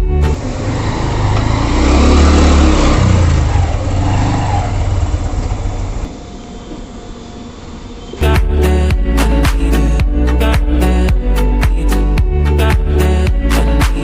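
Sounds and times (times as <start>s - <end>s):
motorbike engine rumbling: 0.0s - 11.4s.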